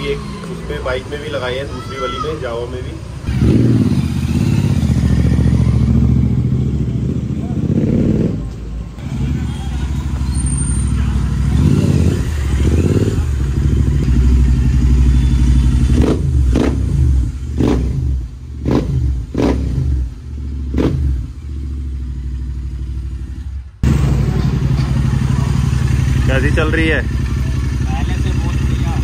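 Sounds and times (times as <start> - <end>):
motorcycle engine revving: 0.0 - 1.7, 3.0 - 29.0.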